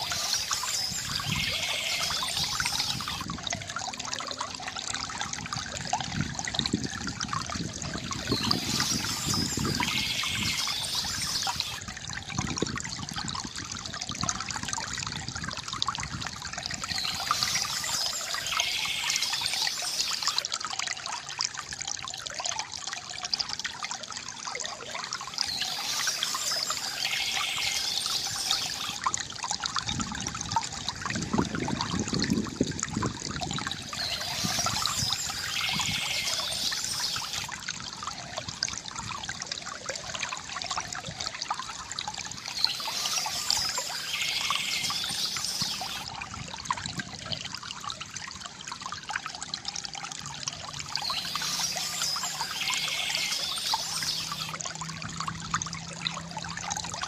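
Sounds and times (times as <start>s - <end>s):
stream trickling over stones: 0.0s - 57.0s.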